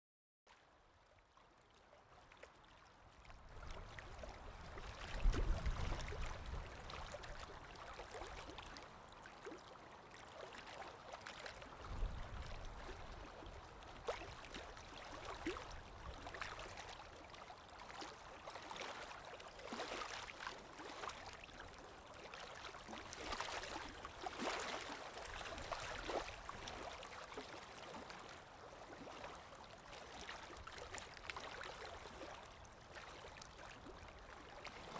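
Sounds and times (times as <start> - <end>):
stream trickling and splashing: 0.5 - 34.9.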